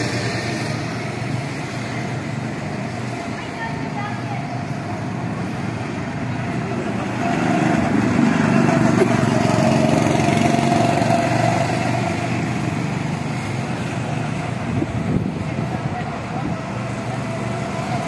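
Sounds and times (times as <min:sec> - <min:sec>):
go-kart engines droning: 0:00.0 - 0:18.0.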